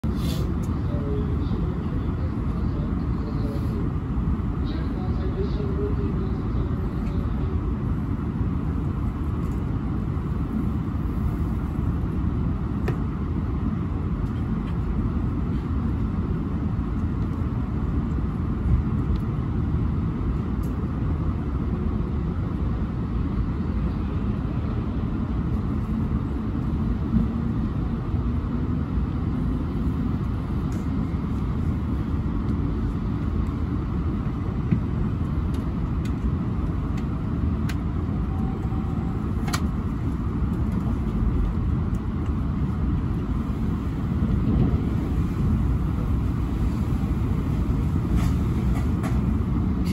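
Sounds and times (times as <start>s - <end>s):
train cabin rumble: 0.0s - 49.9s.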